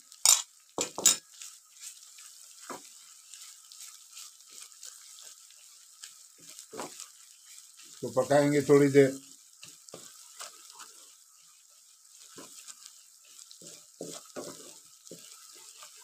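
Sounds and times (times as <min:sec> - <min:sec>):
paste sizzling in a pan: 0:00.0 - 0:16.0
wooden spatula scraping a pan: 0:00.2 - 0:16.0.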